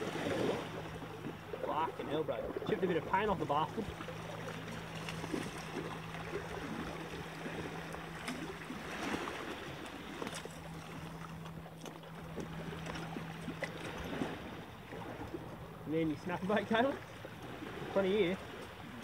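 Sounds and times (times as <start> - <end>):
small waves lapping on rocks: 0.0 - 19.0.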